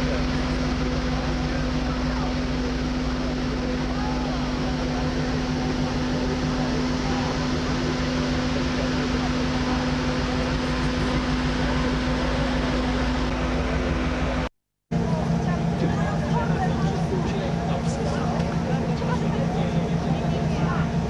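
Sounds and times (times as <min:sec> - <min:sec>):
faint voices: 0:00.0 - 0:21.0
ship machinery hum: 0:00.0 - 0:21.0.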